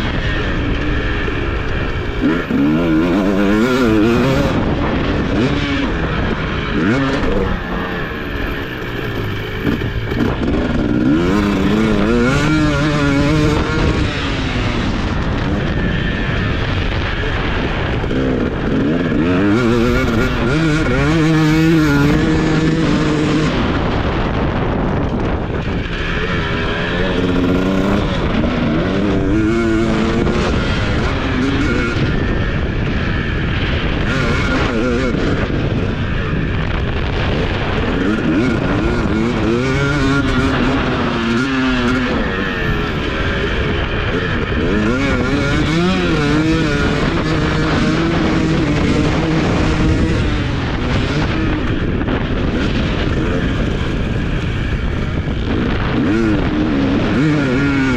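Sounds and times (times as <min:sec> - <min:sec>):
motocross bike engine revving: 0:00.0 - 0:57.9.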